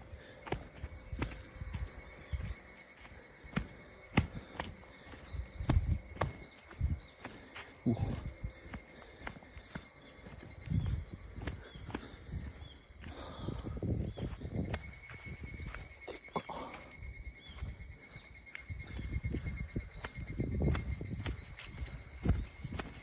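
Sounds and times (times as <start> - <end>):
footsteps on woodland path: 0.0 - 23.0
insect chorus droning: 0.0 - 23.0.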